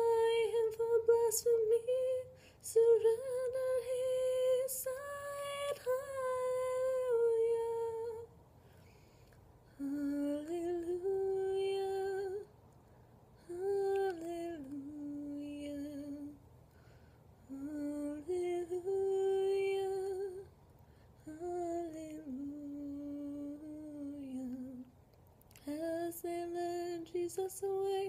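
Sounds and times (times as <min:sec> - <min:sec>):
woman singing wordless melody: 0:00.0 - 0:08.3, 0:09.7 - 0:12.6, 0:13.4 - 0:16.4, 0:17.4 - 0:20.5, 0:21.2 - 0:28.0.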